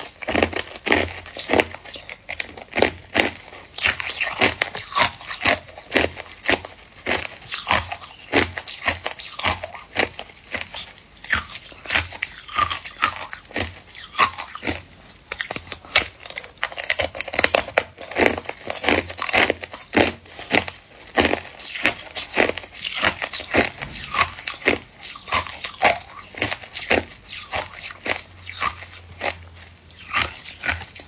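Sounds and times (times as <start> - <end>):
person crunching ice cubes: 0.0 - 31.0.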